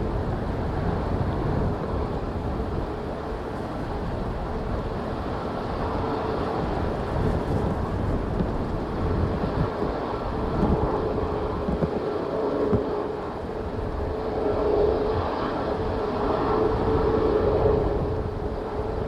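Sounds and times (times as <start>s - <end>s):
jet engines humming: 0.0s - 19.0s
wind gusting on microphone: 0.0s - 19.0s.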